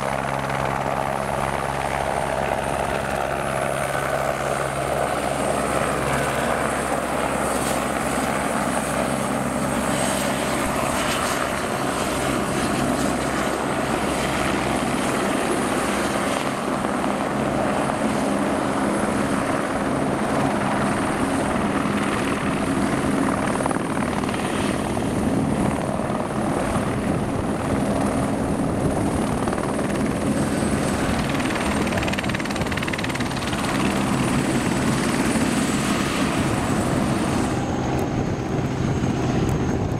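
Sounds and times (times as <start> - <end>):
helicopter rotor noise: 0.0 - 39.9
turbine engine whine: 0.0 - 39.9.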